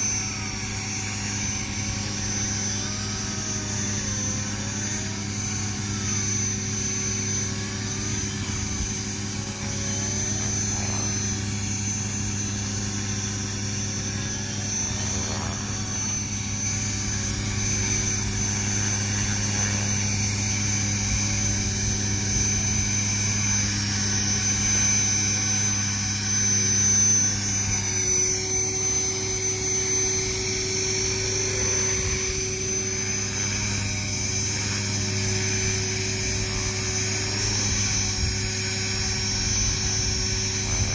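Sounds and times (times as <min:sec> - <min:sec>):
model helicopter hovering: 0:00.0 - 0:40.9.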